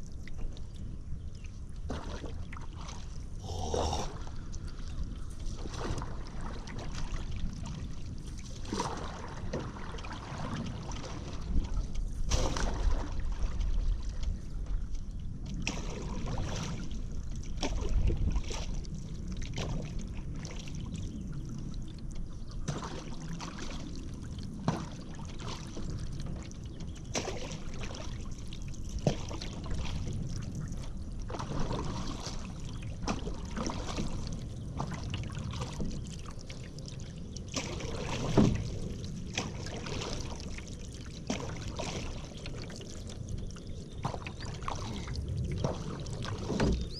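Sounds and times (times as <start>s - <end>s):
paddle splashing in water: 1.8s - 14.9s, 15.5s - 20.9s, 22.5s - 46.9s.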